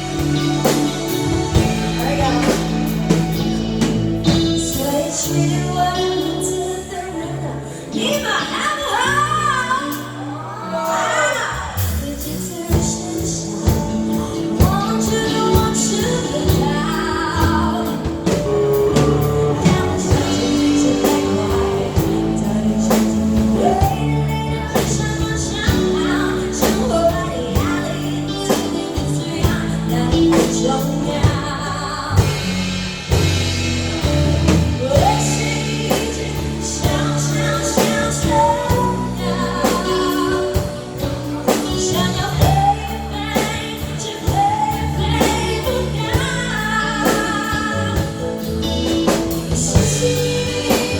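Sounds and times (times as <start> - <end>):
drum kit steady beat: 0.0 - 5.6, 11.7 - 50.9
bass guitar: 0.0 - 50.9
electric guitars: 0.0 - 50.9
person singing lead vocals: 0.0 - 50.9.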